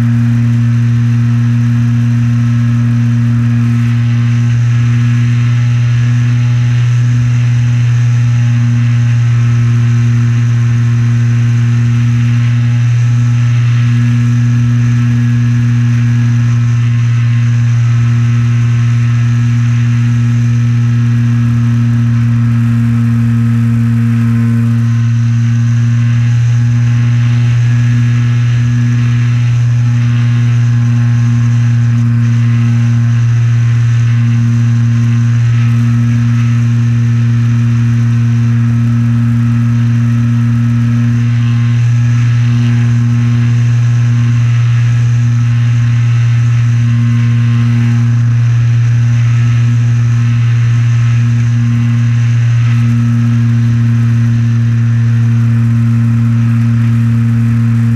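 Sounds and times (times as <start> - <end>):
electric propeller drone: 0.0 - 57.9.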